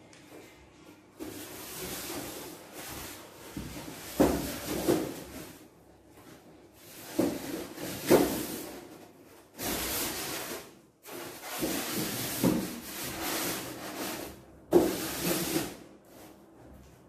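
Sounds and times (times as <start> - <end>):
plastic and cardboard rustling: 0.2 - 17.0.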